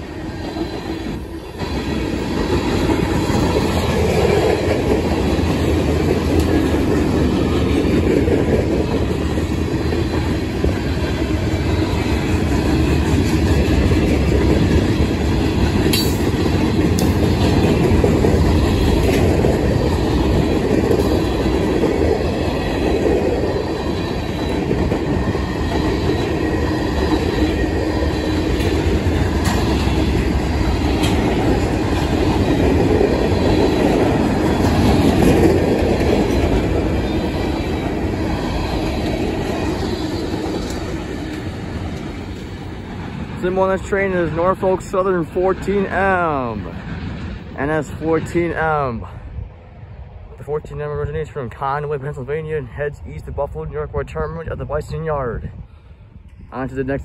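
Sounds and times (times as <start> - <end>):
clickety-clack over rail joints: 0.0 - 48.8
train wheels rumbling on rails: 0.0 - 57.0.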